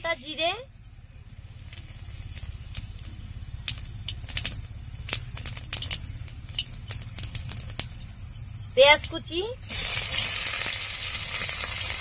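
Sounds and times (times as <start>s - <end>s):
low hum: 0.0s - 12.0s
seeds spluttering in hot oil: 0.8s - 12.0s.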